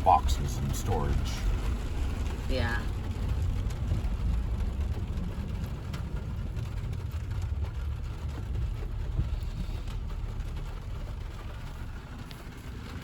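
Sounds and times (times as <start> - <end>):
car driving on wet streets: 0.0 - 13.0.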